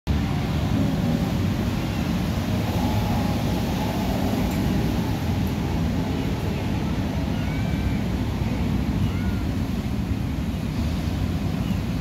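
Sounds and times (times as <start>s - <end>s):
low background rumble: 0.1s - 12.0s.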